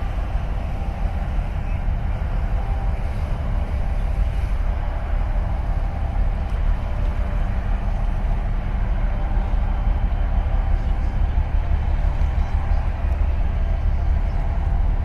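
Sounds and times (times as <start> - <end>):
boat engine rumbling: 0.0 - 15.0
wind: 0.0 - 15.0.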